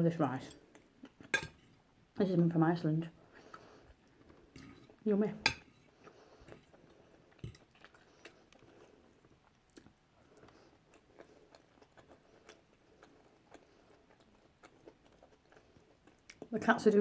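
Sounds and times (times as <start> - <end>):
chewing food: 0.3 - 1.9, 3.2 - 17.0.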